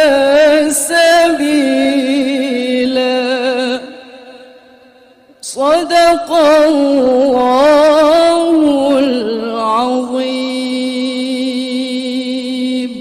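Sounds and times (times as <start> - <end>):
woman reciting melodically: 0.0 - 4.5, 5.4 - 13.0.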